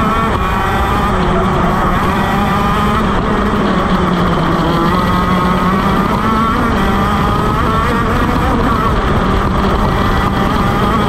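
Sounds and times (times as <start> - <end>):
kart engine at high revs: 0.0 - 11.0.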